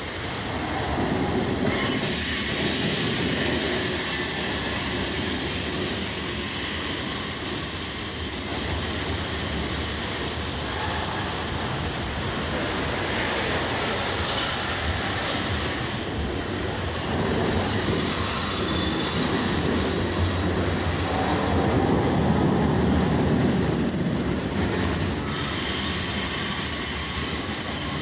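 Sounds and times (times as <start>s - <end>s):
freight train wheels rushing on rails: 0.0s - 28.0s.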